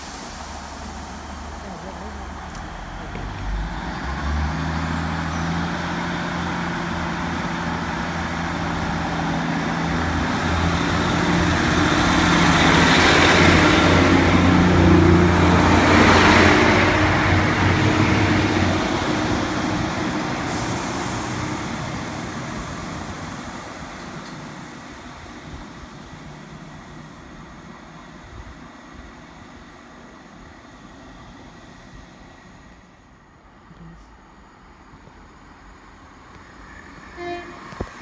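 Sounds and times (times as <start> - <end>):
train wheels on rails: 0.0 - 33.0, 34.9 - 38.0
train diesel engines running: 0.0 - 38.0.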